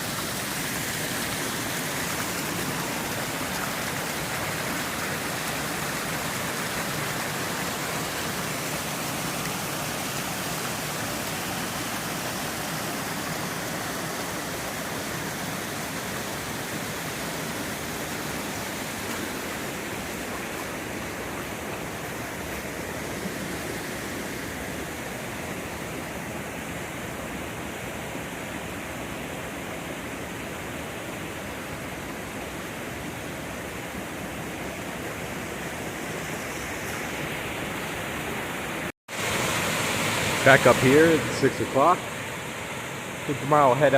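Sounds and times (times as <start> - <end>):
falling water rushing: 0.0 - 43.9.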